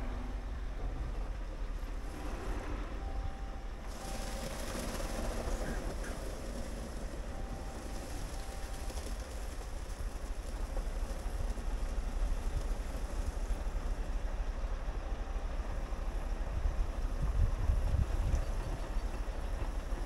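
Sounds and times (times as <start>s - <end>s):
diesel truck engine rumbling: 0.0s - 20.0s
truck reversing on gravel: 0.0s - 20.0s.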